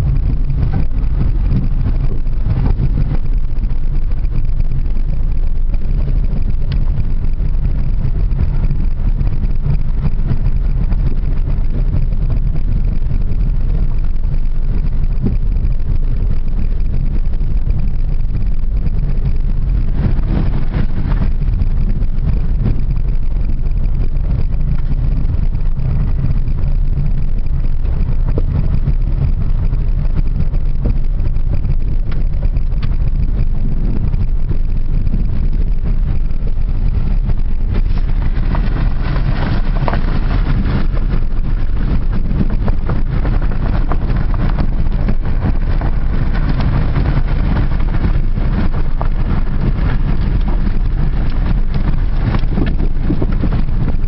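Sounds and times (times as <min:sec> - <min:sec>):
tyres on dirt road: 0:00.0 - 0:54.0
vehicle engine rumble: 0:00.0 - 0:54.0.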